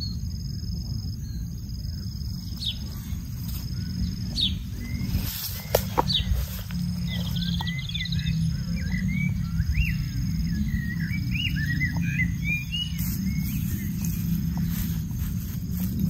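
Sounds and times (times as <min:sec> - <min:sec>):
small birds chirping: 0:00.0 - 0:16.0
steady low rumble: 0:00.0 - 0:16.0
bird trill: 0:01.2 - 0:16.0.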